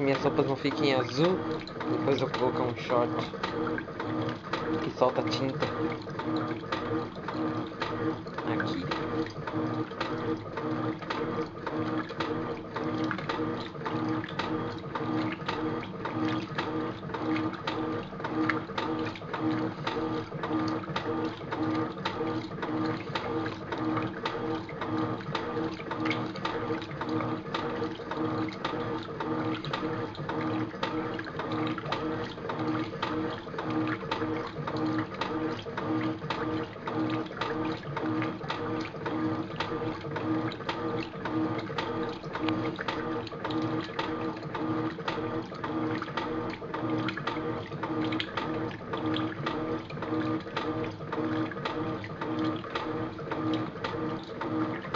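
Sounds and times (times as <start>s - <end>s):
washing machine motor hum: 0.0s - 54.9s
water churning: 0.0s - 54.9s.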